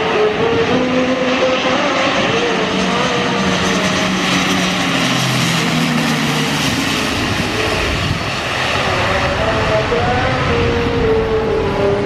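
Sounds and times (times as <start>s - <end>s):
turboprop aircraft engines droning: 0.0s - 12.0s.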